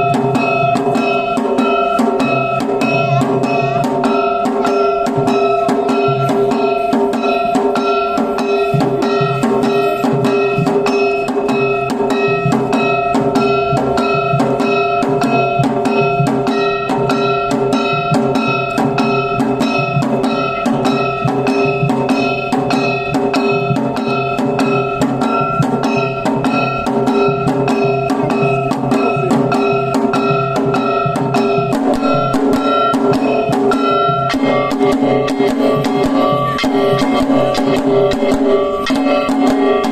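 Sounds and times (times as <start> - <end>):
drums in fast rhythm: 0.0 - 39.9
metal gong ringing: 0.0 - 39.9.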